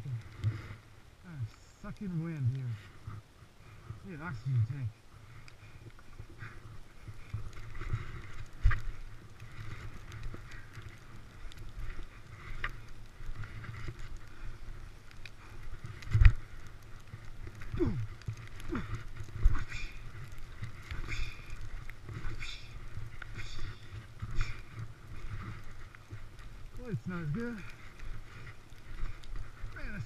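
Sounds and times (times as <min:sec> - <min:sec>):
skis scraping over snow: 0:00.0 - 0:30.0
wind rumbling on microphone: 0:00.0 - 0:30.0.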